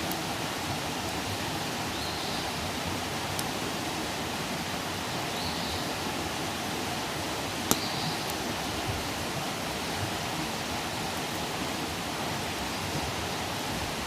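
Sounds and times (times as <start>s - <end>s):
fire crackles and pops: 0.0s - 14.0s
wood fire hissing: 0.0s - 14.0s.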